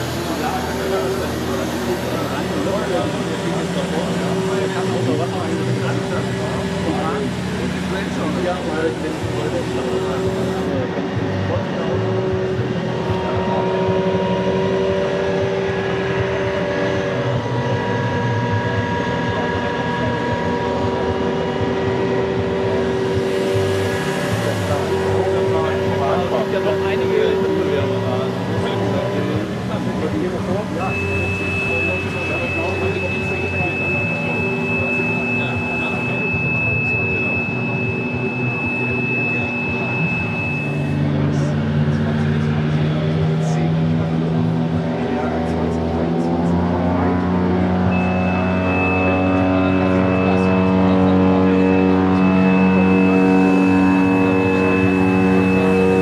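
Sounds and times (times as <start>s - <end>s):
dense background murmur: 0.0s - 56.0s
machine droning: 0.0s - 56.0s
steady high-pitched tone: 0.0s - 56.0s.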